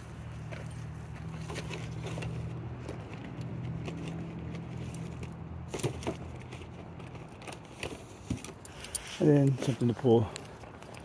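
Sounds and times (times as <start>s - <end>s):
handling clicks and knocks: 0.3s - 11.0s.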